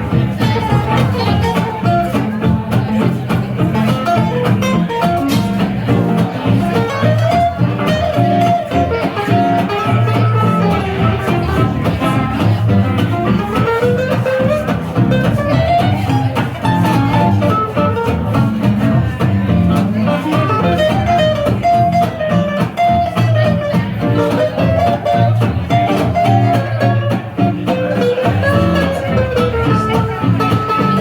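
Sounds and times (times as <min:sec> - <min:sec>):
guitars strumming: 0:00.0 - 0:31.0
swing jazz band playing: 0:00.0 - 0:31.0.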